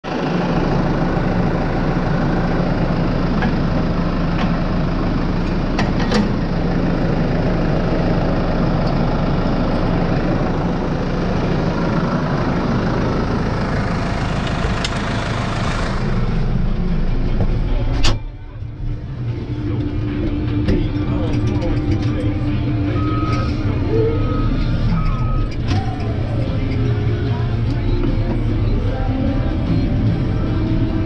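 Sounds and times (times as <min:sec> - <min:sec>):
tractor diesel engine idling: 0:00.0 - 0:31.0.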